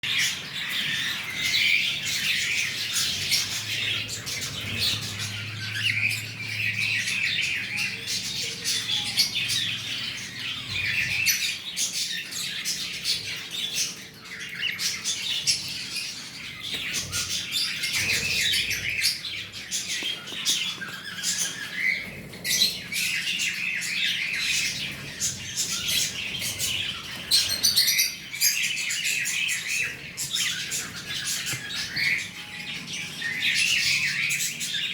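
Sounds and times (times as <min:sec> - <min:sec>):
cockatiel chirping and squawking: 0:00.1 - 0:34.9.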